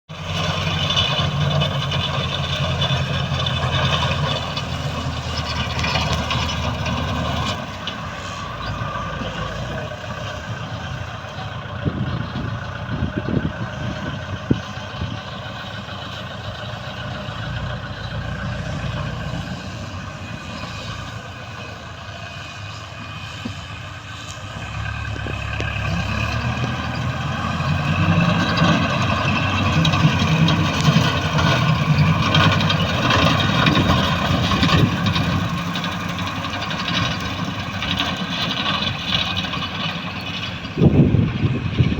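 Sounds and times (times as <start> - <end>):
tractor engine mowing: 0.1 - 41.9.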